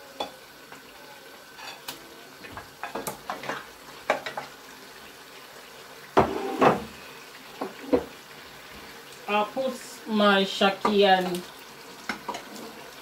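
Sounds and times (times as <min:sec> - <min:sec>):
faint frying sizzle: 0:00.0 - 0:13.0.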